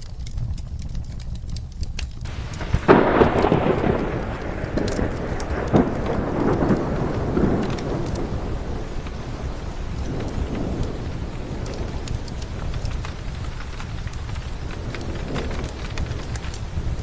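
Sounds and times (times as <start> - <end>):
sharp ticks: 0.0 - 9.2, 9.9 - 17.0
steady rain: 0.0 - 17.0
thunder rumbling: 0.0 - 17.0.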